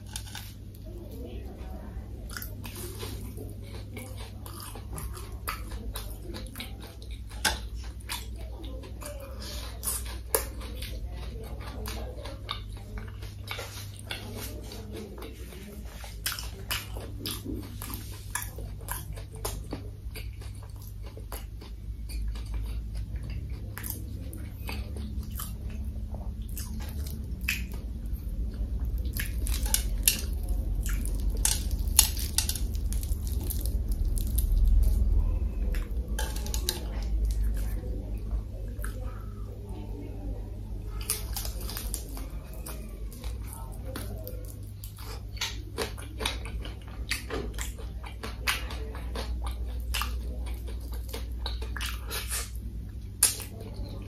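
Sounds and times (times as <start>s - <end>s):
crunchy chewing: 0.0s - 39.5s, 40.7s - 54.0s.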